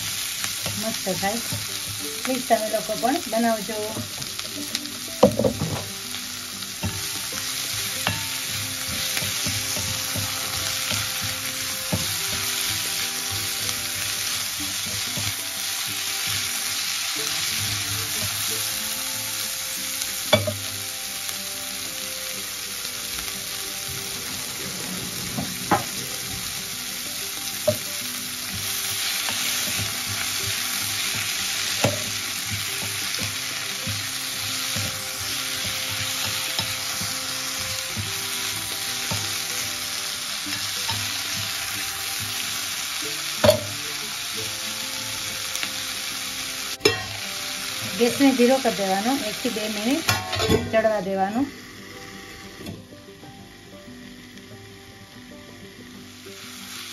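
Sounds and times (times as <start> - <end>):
vegetables sizzling in oil: 0.0 - 56.9.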